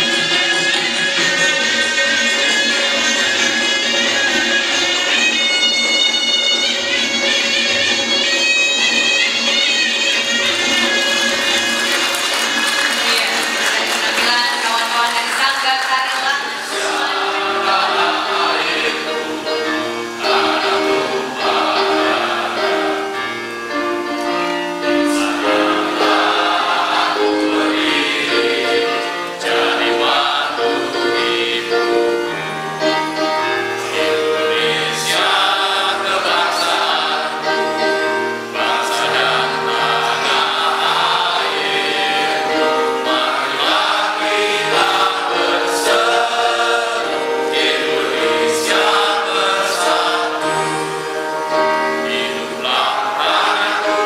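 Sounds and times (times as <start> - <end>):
choir-like singing: 0.0 - 6.0, 10.2 - 54.0.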